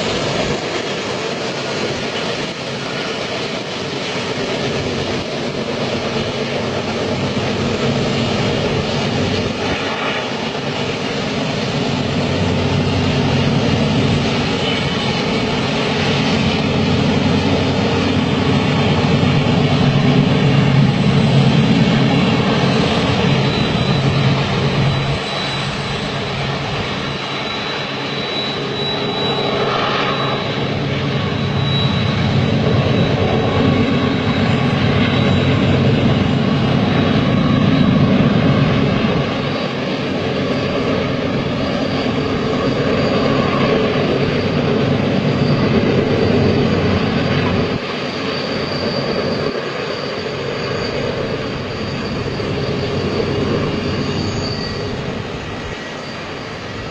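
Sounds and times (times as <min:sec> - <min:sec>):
freight train rumbling: 0:00.0 - 0:56.9.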